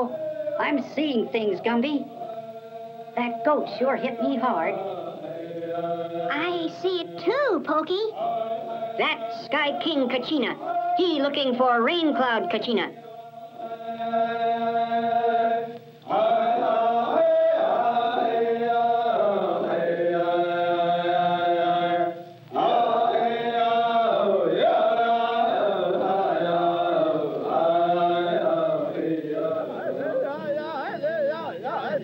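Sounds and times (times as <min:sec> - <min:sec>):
chanting long sung notes: 0:00.0 - 0:32.0.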